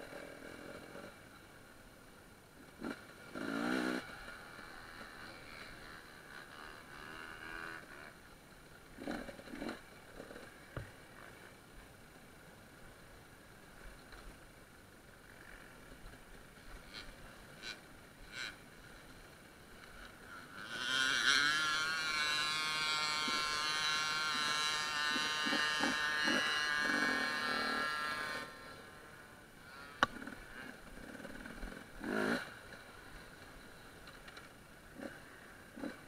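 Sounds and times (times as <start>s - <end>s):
motorcycle engine running: 0.0s - 13.9s, 14.7s - 36.0s.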